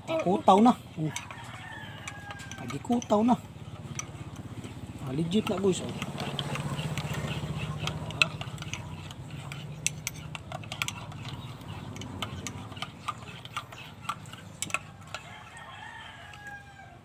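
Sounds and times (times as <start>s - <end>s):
metal spoon clinking in mug: 0.0s - 4.5s, 5.2s - 16.5s.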